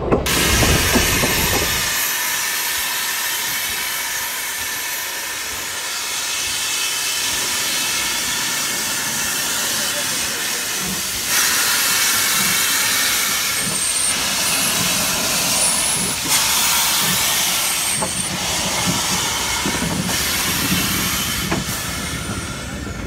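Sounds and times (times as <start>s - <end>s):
locomotive steam hissing: 0.2s - 23.0s.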